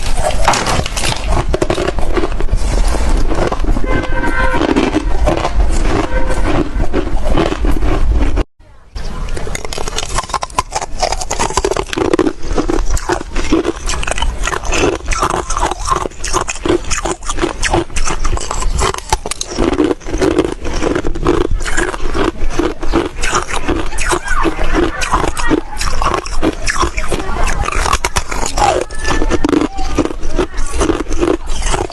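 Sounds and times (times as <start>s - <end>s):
wet mouth noise: 0.0s - 8.4s, 9.2s - 31.9s
chewing crunchy frost: 0.0s - 8.5s, 9.2s - 31.9s.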